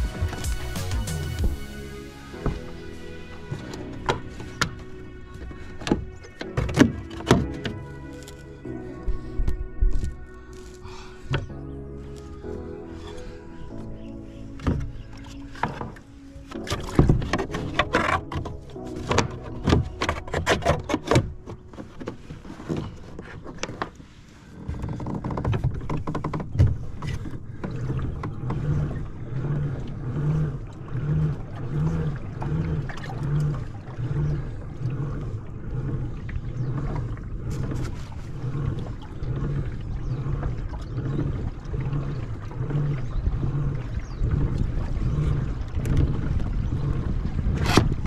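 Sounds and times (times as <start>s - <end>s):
kayak pedal drive humming: 0.0s - 48.0s.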